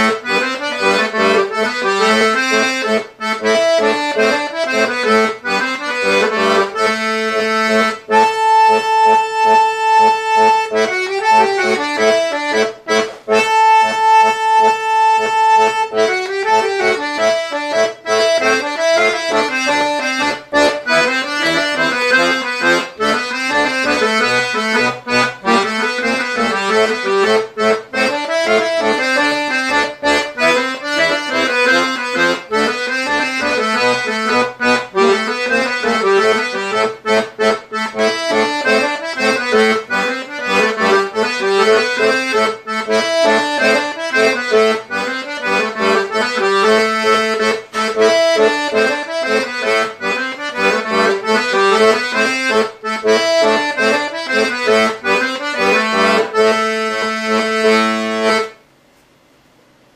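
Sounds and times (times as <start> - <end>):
button accordion playing folk tune: 0.0 - 58.6.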